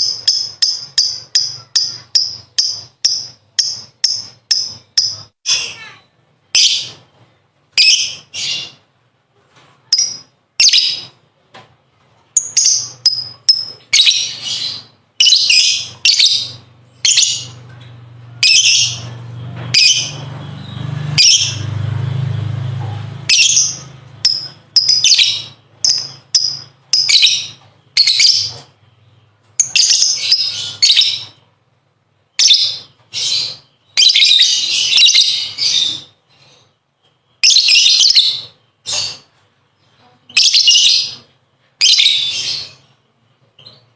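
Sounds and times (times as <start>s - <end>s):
lovebird chirping: 0.0s - 8.9s, 9.8s - 11.2s, 12.4s - 21.8s, 22.4s - 31.5s, 32.3s - 43.9s.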